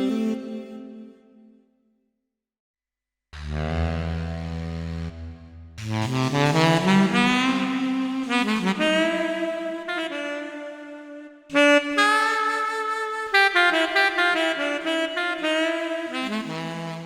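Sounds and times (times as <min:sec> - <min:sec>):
keyboard saxophone melody: 0:00.0 - 0:01.5, 0:03.4 - 0:17.0.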